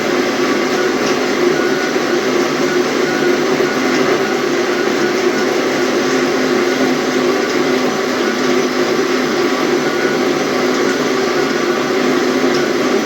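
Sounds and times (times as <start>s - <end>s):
electric blender running: 0.0s - 13.0s.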